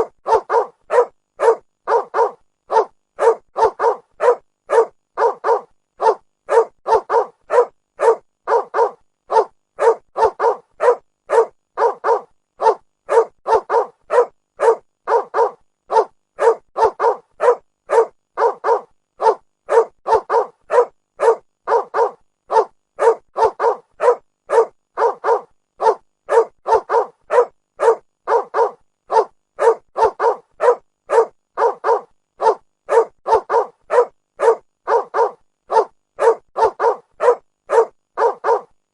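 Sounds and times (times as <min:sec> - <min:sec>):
dog barking rapidly: 0:00.0 - 0:38.7.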